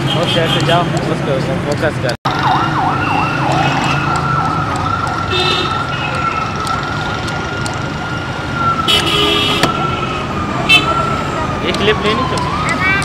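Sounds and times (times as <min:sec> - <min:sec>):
street traffic noise: 0:00.0 - 0:13.0
emergency vehicle siren: 0:02.3 - 0:13.0.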